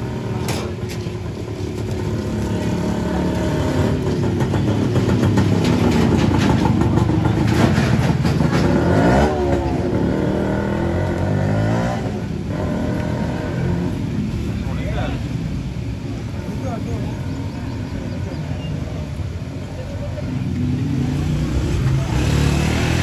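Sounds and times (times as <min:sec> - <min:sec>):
vehicle engines running: 0:00.0 - 0:23.0
vehicle passing close: 0:00.0 - 0:23.0.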